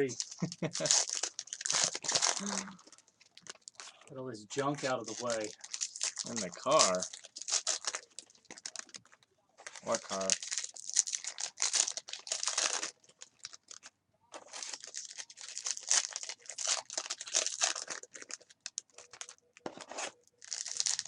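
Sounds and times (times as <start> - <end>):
plastic wrappers crinkling and tearing: 0.0 - 21.0.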